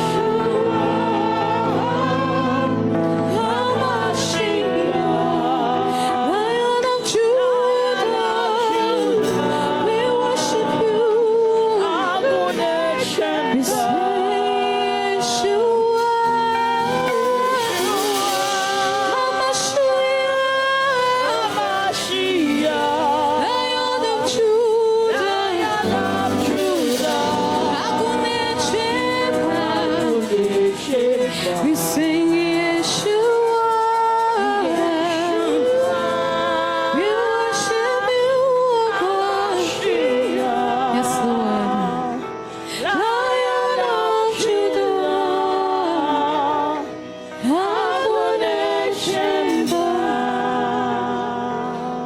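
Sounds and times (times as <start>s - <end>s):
instrumental backing: 0.0s - 52.0s.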